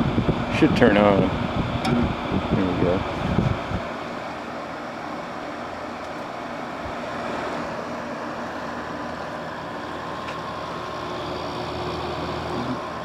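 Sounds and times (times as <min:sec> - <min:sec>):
air conditioner fan rushing: 0:00.0 - 0:13.0.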